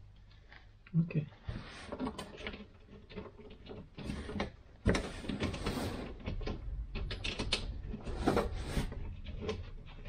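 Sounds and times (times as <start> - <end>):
plastic creaking and scraping: 1.4 - 10.0.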